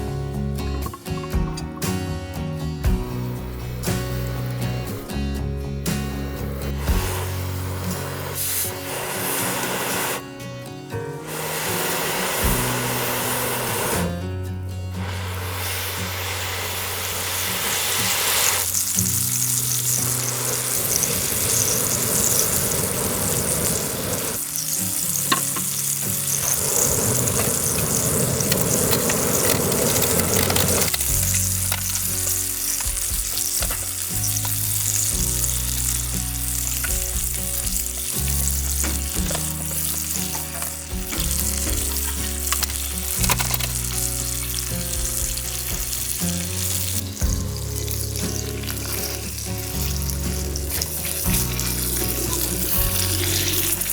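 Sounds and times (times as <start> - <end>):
food sizzling in a pan: 6.4 - 10.3, 11.2 - 53.9.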